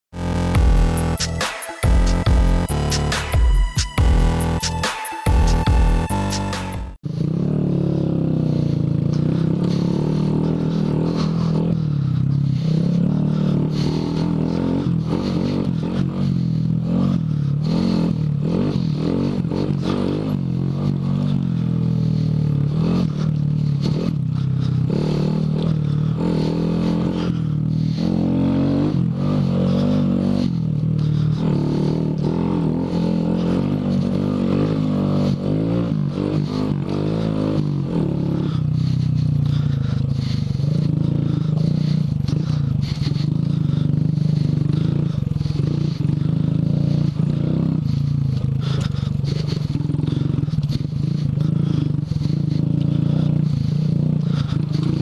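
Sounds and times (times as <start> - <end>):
motorbike engine running: 0.1 - 55.0
knocks and scraping on dirt trail: 8.3 - 55.0.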